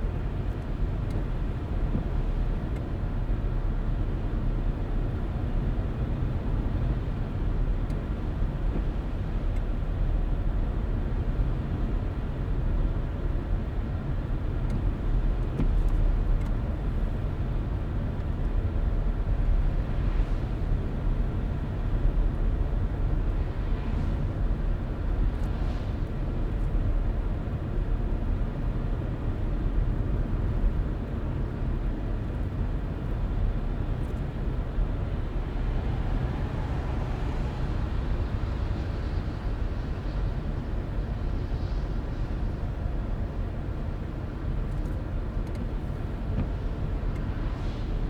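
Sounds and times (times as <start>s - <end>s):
car driving on road: 0.0s - 48.0s.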